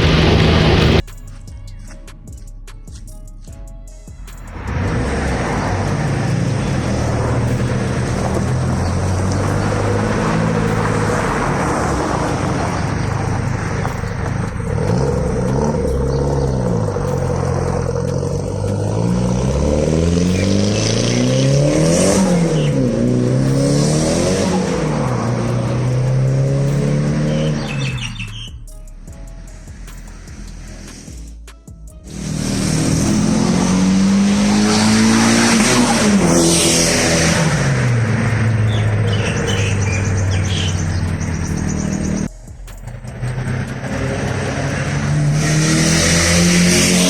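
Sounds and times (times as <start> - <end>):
car engine revving: 0.0 - 1.4, 4.2 - 31.4, 32.0 - 47.0.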